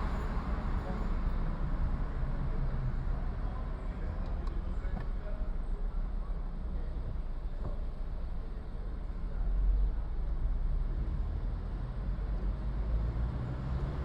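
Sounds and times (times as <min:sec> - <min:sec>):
road and traffic rumble: 0:00.0 - 0:14.0.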